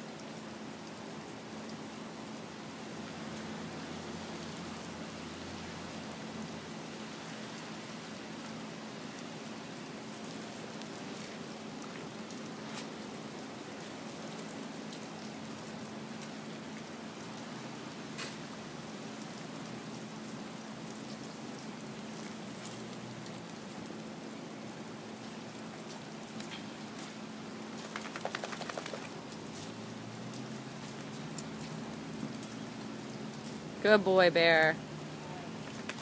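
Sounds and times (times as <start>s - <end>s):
rain falling: 0.0s - 36.0s.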